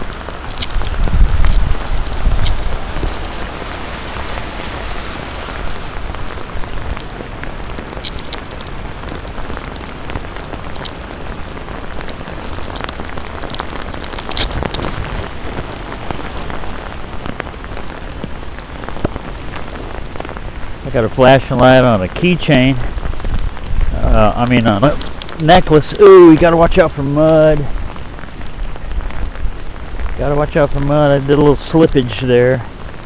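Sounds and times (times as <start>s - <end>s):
rain on nylon poncho: 0.0s - 33.0s.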